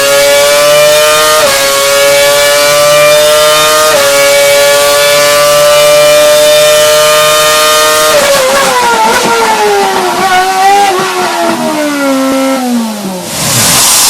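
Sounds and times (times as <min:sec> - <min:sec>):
racing engine revving down: 0:00.0 - 0:14.0.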